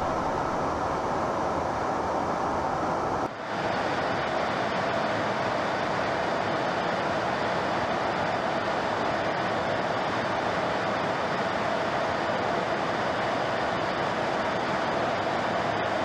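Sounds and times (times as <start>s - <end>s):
aircraft cabin engine and airflow rush: 0.0s - 16.0s.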